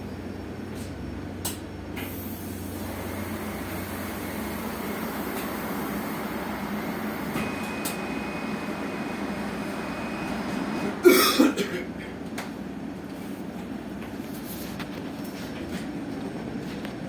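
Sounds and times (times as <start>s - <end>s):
bus cabin noise: 0.0s - 17.0s.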